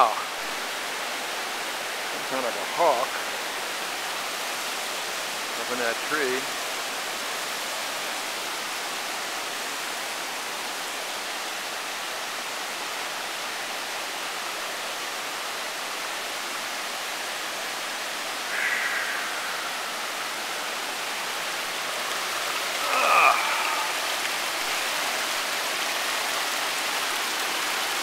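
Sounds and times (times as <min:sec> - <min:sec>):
river rapids rushing over boulders: 0:00.0 - 0:28.0.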